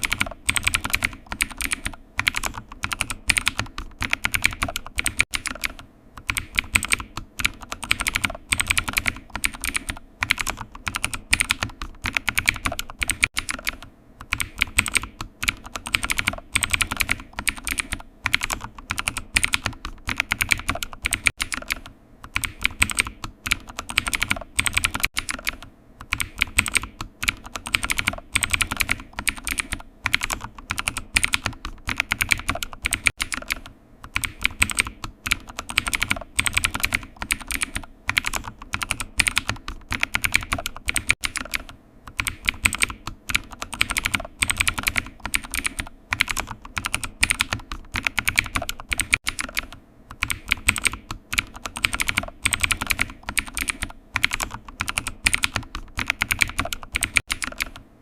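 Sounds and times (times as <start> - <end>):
computer keyboard typing: 0.0 - 57.9.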